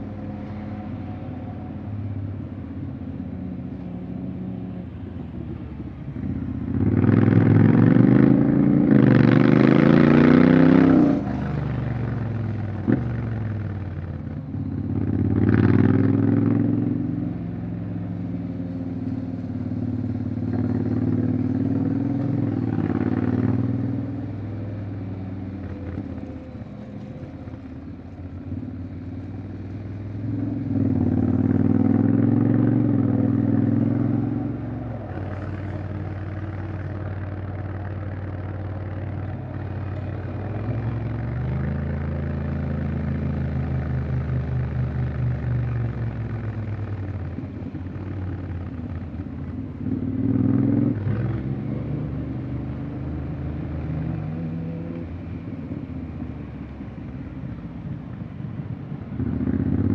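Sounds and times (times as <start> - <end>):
motorcycle engine accelerating: 6.7 - 57.2.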